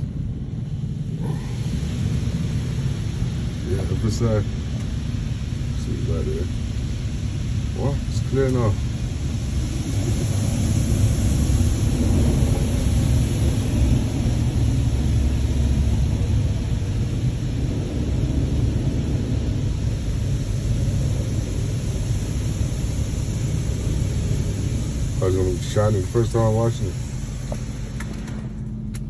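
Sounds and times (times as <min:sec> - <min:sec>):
water jets spraying car: 0:00.0 - 0:29.0.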